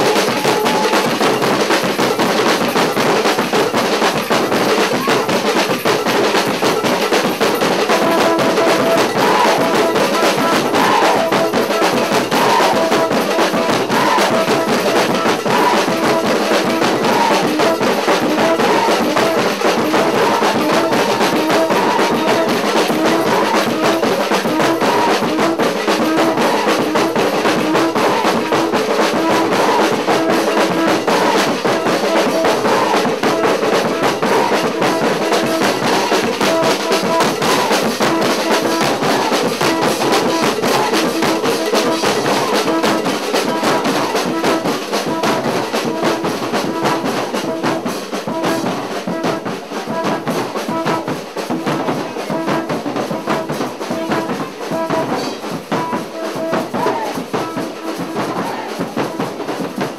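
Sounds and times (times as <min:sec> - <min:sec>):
drums beating fast rhythm: 0:00.0 - 0:59.9
horns playing riff: 0:07.5 - 0:59.2.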